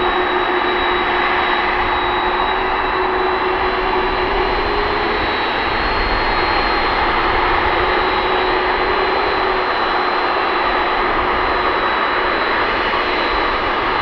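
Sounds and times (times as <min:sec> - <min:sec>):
jet engines running with whine: 0:00.0 - 0:14.0.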